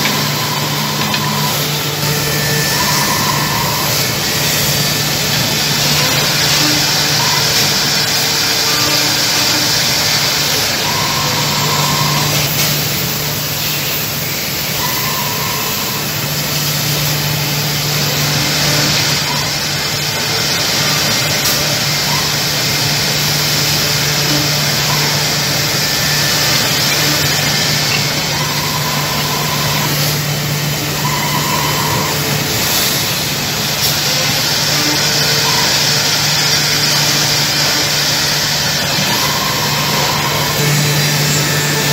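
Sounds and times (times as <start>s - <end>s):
high machine whine: 0.0s - 41.9s
loud machine noise with hum: 0.0s - 41.9s.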